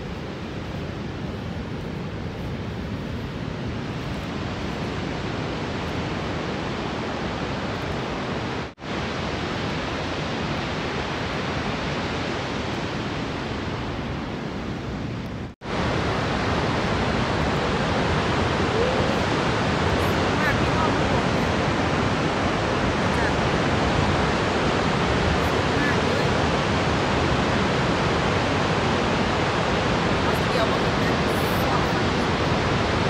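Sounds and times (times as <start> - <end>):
waterfall roaring: 0.0 - 33.0
wind: 0.0 - 33.0.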